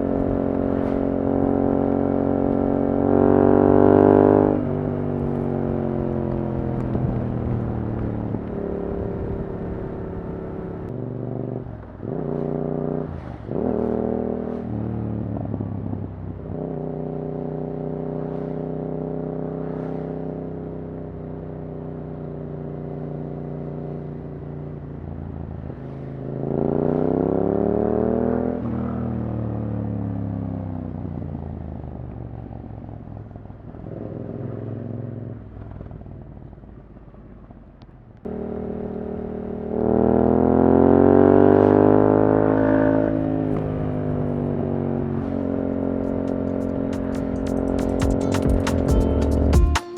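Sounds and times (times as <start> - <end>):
motorcycle engine revving: 0.0 - 49.8.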